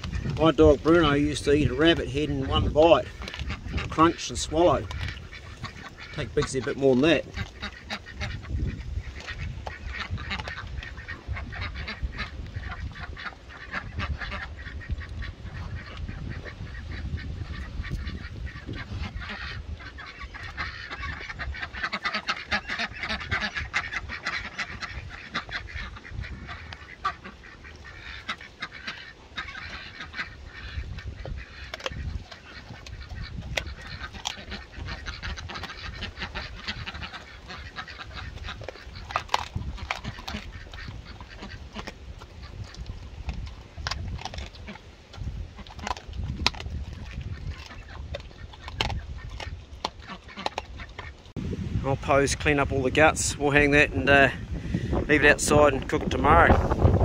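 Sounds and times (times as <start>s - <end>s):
dog gnawing and crunching bone: 0.0s - 16.5s, 17.4s - 51.3s
ducks quacking and honking: 0.0s - 51.3s, 52.1s - 57.0s.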